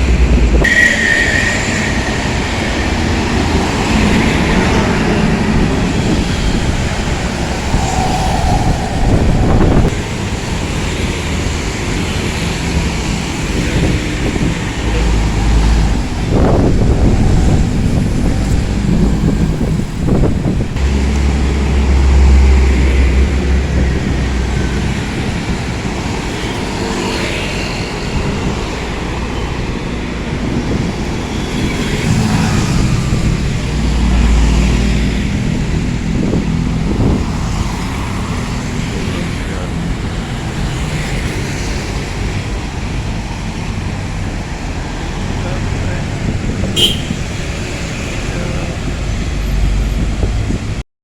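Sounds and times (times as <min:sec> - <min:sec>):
vehicle engine and road noise: 0:00.0 - 0:50.8.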